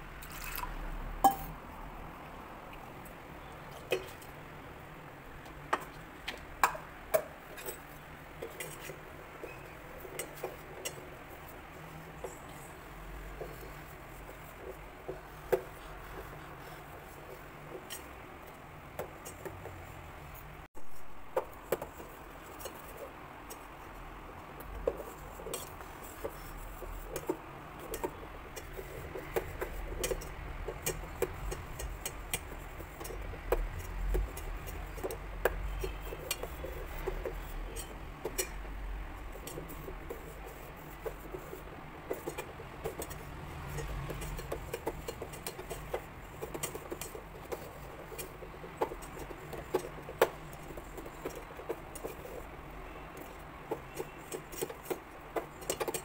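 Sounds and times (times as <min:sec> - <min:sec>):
spoon stirring in metal pot: 0:03.7 - 0:04.4, 0:05.4 - 0:20.4, 0:21.3 - 0:56.0.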